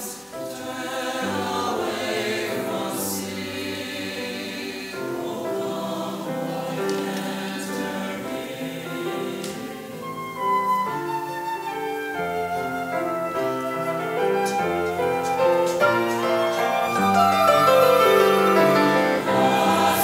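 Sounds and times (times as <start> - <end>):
church choir singing: 0.0 - 20.0.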